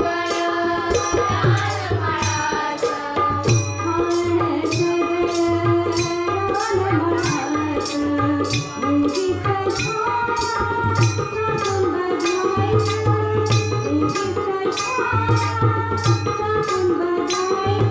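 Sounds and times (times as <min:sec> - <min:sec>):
hand drum: 0:00.0 - 0:17.9
harmonium melody: 0:00.0 - 0:17.9
small hand cymbals: 0:00.0 - 0:17.9.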